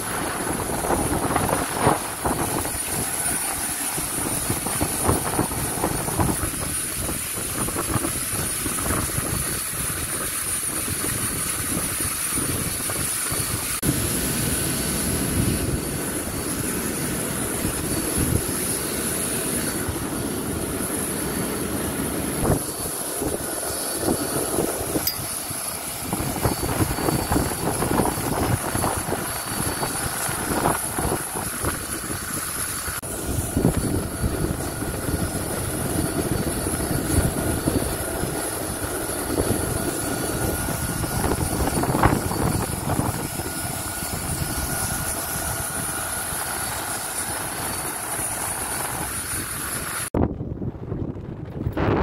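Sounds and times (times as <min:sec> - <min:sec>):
aircraft turbine whine: 0:00.0 - 0:52.0.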